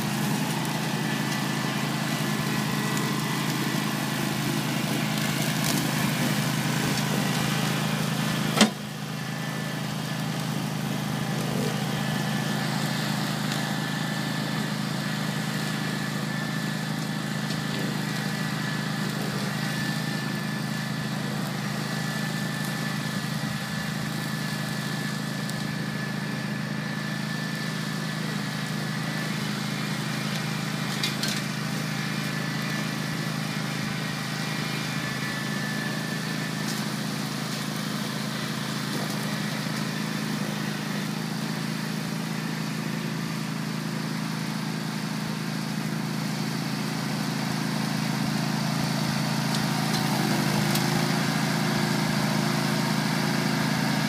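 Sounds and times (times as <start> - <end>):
ride-on mower engine hum: 0.0 - 54.0.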